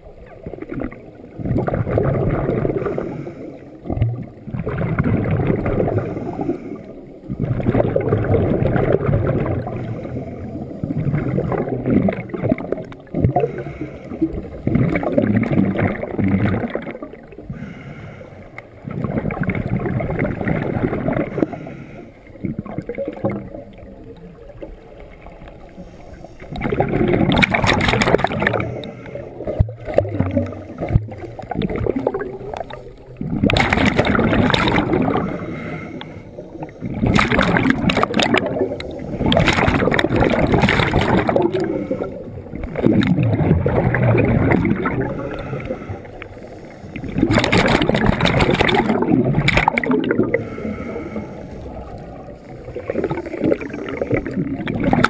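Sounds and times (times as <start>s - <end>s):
underwater bubble bursts: 0.0s - 17.8s, 18.4s - 55.0s.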